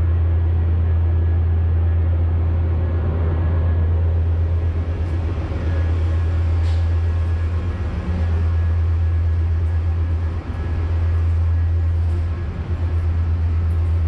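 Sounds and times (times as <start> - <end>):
train running drone and rumble: 0.0 - 14.0.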